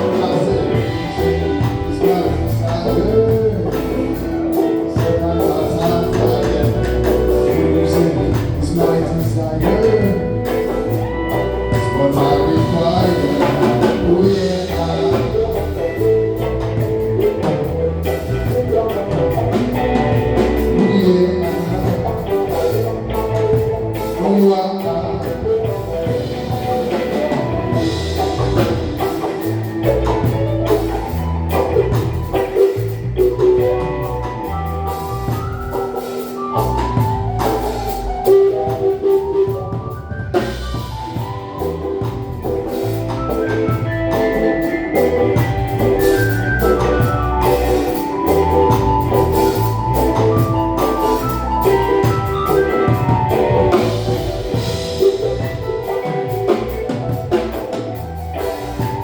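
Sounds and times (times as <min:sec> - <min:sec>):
bass: 0:00.0 - 0:59.0
bright melodic notes: 0:00.0 - 0:59.0
drum kit: 0:00.0 - 0:59.0.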